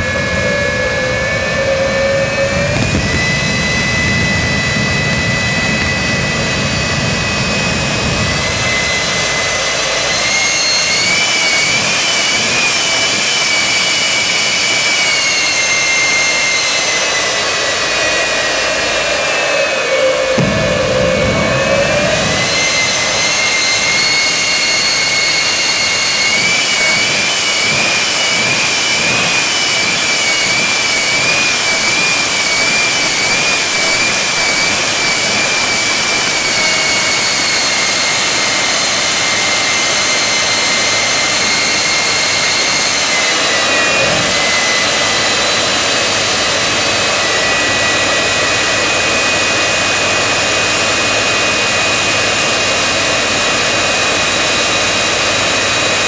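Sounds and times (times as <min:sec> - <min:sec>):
high turbine whine: 0:00.0 - 0:56.0
jet engine roaring: 0:00.0 - 0:56.0.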